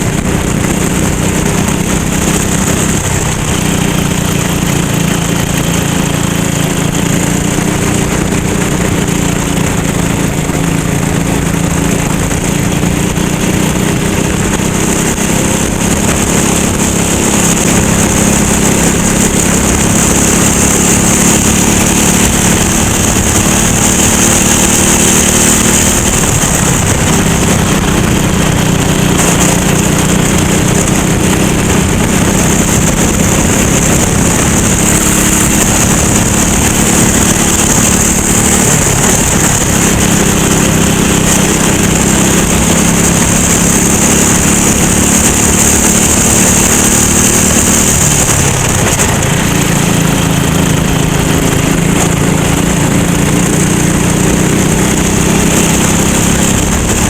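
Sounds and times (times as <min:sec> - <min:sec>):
racing kart engine under load: 0:00.0 - 0:57.0.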